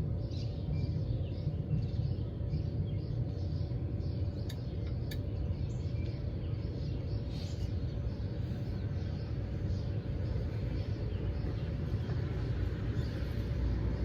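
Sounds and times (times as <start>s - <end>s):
songbirds chirping: 0.0s - 14.0s
steady low rumble: 0.0s - 14.0s.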